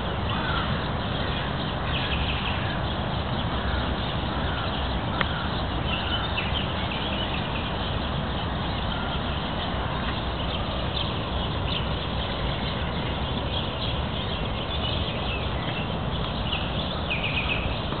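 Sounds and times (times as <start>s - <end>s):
distant road traffic: 0.0s - 18.0s
small birds chirping: 0.0s - 18.0s.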